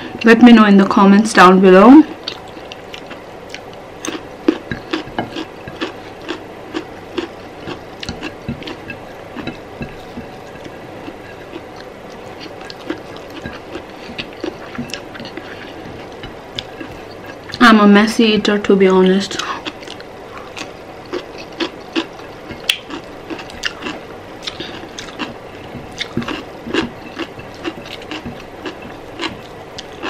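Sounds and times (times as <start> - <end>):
person chewing food: 2.1 - 17.6, 19.4 - 30.0.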